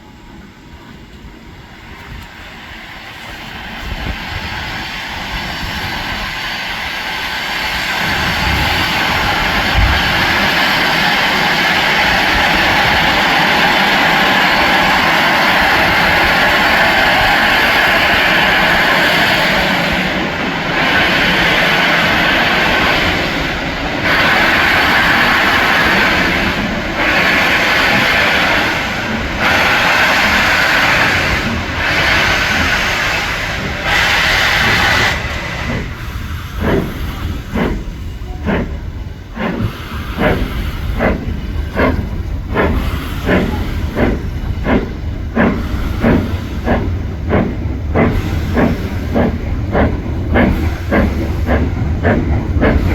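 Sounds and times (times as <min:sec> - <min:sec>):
steam locomotive chuffing: 0:00.0 - 0:52.9.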